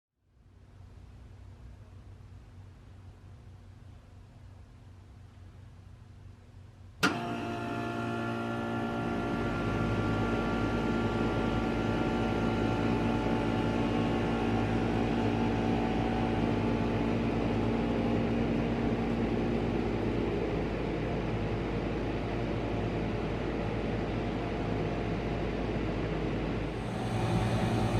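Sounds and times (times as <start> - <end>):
air conditioner humming and whirring: 0.2 - 27.9.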